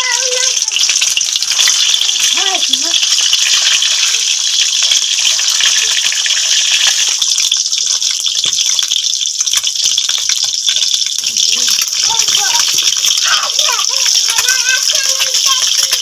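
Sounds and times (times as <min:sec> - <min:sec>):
eggs sizzling in hot oil: 0:00.0 - 0:16.0.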